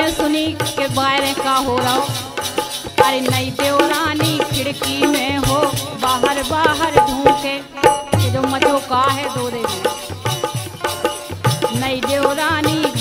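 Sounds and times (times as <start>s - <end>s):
busy percussion: 0.0s - 13.0s.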